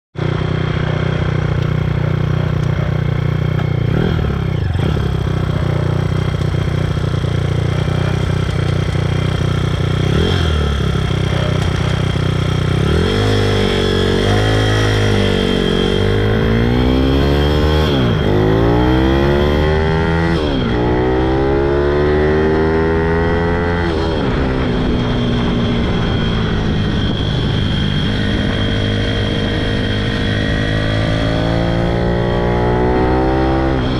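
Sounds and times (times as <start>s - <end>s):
motorbike engine revving: 0.2s - 33.9s.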